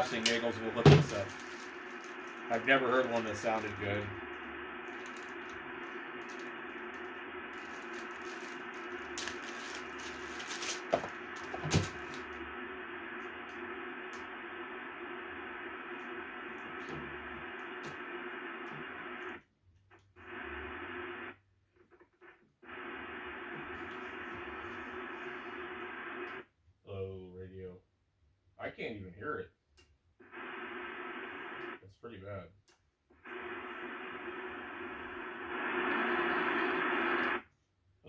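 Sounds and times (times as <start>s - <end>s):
radio static: 0.0s - 19.4s, 20.0s - 26.5s, 30.2s - 32.4s, 33.2s - 37.4s.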